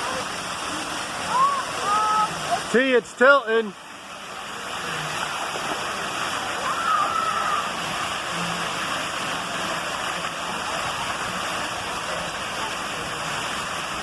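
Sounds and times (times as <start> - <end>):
falling water splashing: 0.0 - 14.0.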